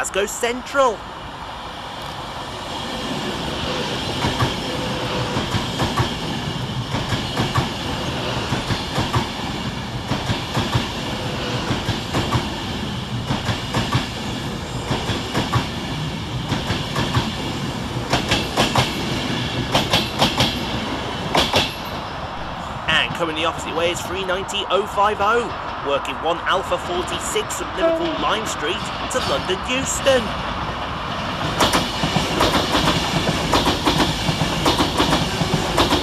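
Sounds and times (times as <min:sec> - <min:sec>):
electric train passing: 0:00.0 - 0:36.0.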